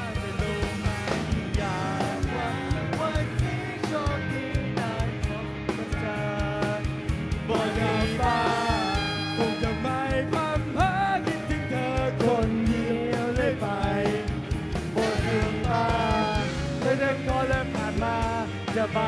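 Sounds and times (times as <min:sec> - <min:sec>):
man singing into microphone: 0:00.0 - 0:06.9, 0:07.5 - 0:19.0
electric guitar: 0:00.0 - 0:19.0
steady drum beat: 0:00.0 - 0:19.0.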